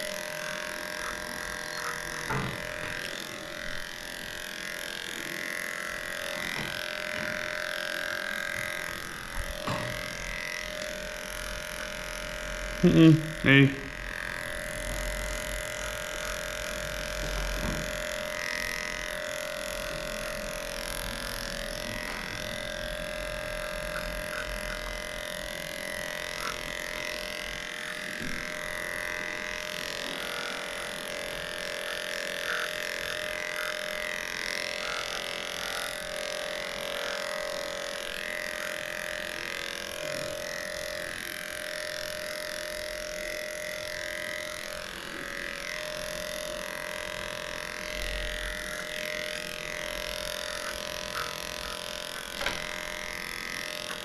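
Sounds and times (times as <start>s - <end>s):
electric dog clippers buzzing: 0.0s - 54.0s.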